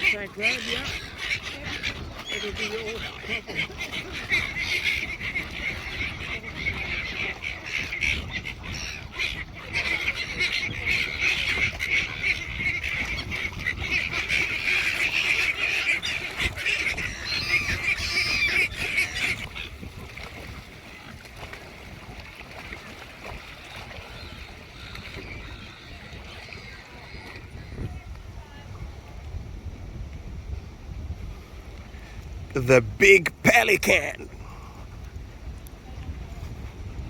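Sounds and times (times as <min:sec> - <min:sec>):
many birds calling and chattering: 0:00.0 - 0:28.1, 0:32.6 - 0:34.7.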